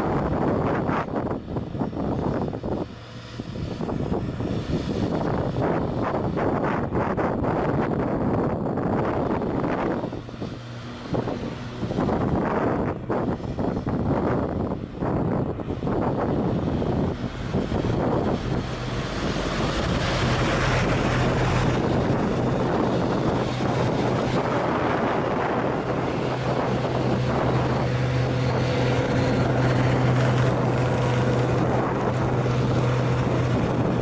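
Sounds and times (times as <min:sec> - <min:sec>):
truck diesel engine labouring: 0:00.0 - 0:34.0
wind buffeting microphone: 0:00.0 - 0:34.0.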